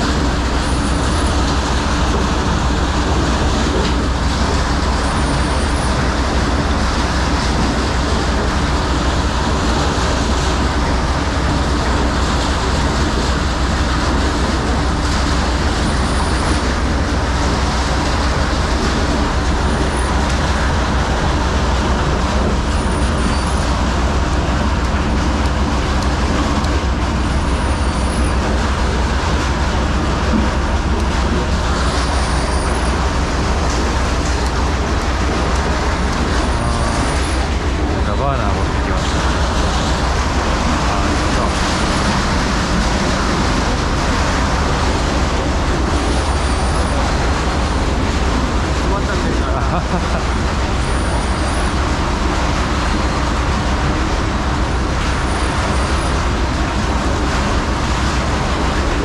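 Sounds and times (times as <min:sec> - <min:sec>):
machine humming loudly: 0:00.0 - 0:59.0.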